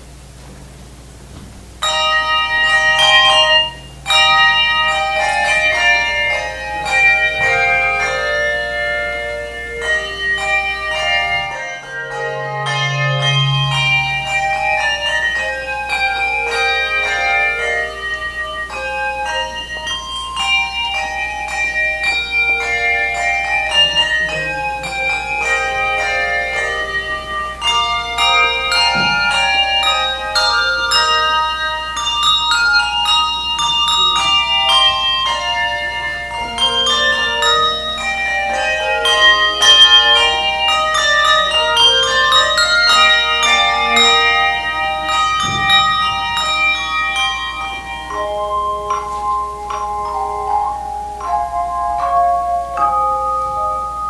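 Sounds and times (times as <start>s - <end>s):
handbell choir playing: 1.8s - 54.0s.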